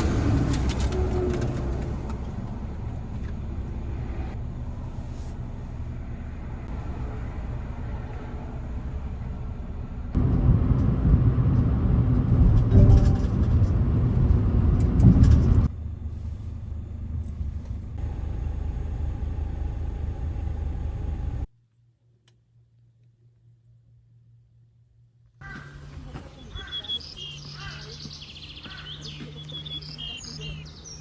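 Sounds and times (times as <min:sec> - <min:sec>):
car engine and tyre rumble: 0:00.0 - 0:21.5, 0:25.4 - 0:31.0.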